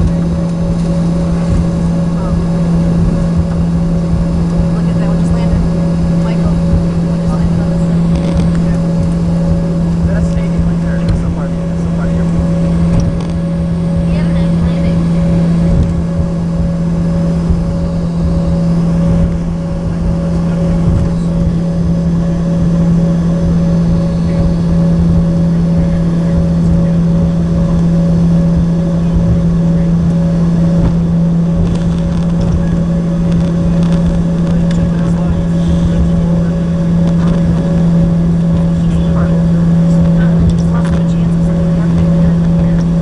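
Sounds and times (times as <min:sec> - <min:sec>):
jet cabin drone: 0:00.0 - 0:43.0.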